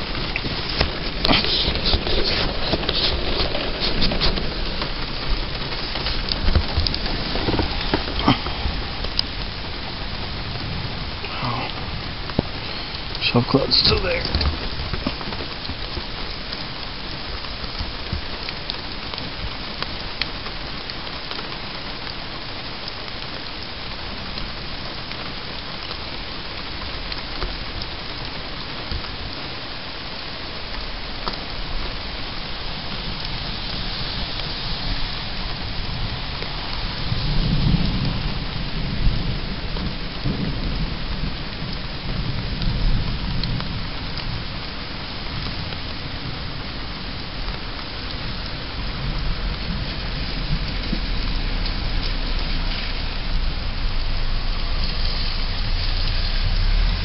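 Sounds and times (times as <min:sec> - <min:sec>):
rain pattering: 0:00.0 - 0:57.0
thunder rumbling: 0:00.0 - 0:57.0.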